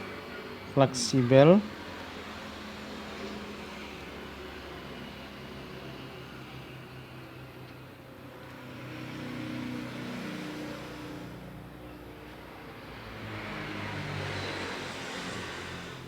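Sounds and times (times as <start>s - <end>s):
vehicle engines passing: 0.0s - 16.0s.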